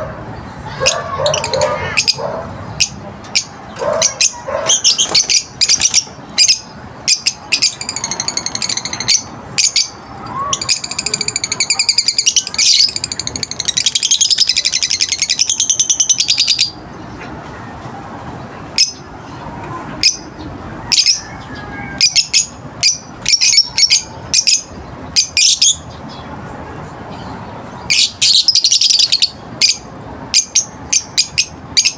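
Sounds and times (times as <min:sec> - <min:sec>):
birds chirping and chattering: 0:00.0 - 0:31.9.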